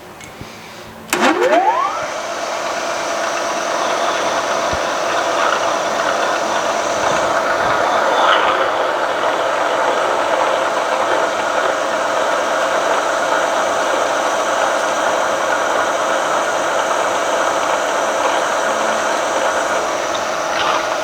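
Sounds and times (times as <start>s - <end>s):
milling machine spindle running: 0.9s - 21.0s
drill boring into hard steel: 1.1s - 21.0s.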